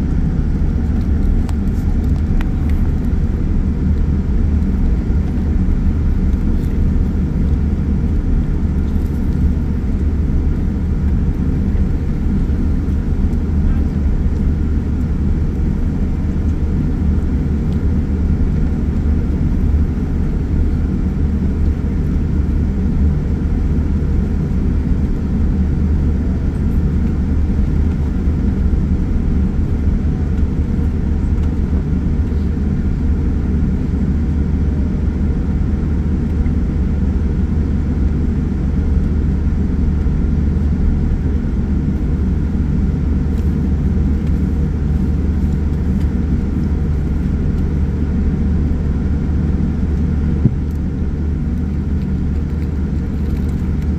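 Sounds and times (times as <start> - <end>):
low rumble inside airplane cabin: 0.0 - 53.9.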